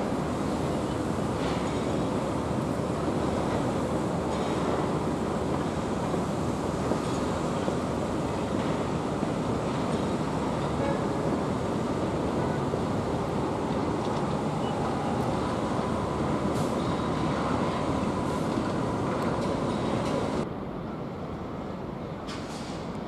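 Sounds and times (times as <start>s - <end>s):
distant train rushing with high whine: 0.0s - 23.0s.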